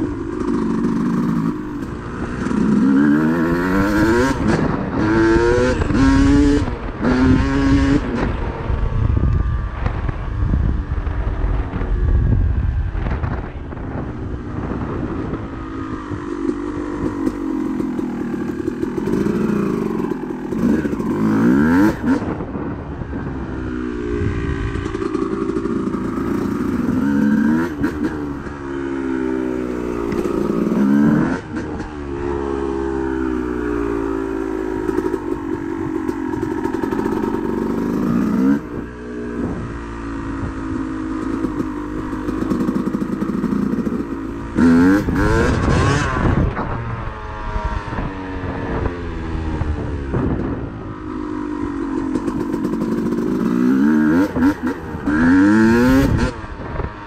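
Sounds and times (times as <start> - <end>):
dirt bike engine revving: 0.0 - 8.4, 14.6 - 22.7, 23.9 - 48.9, 49.5 - 56.9.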